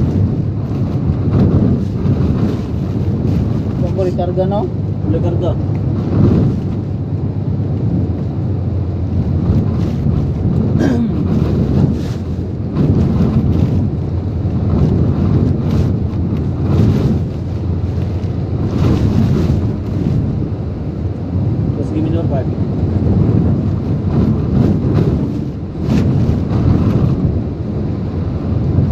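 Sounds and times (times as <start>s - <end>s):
strong wind gusting: 0.0s - 28.9s
wind buffeting microphone: 0.0s - 28.9s.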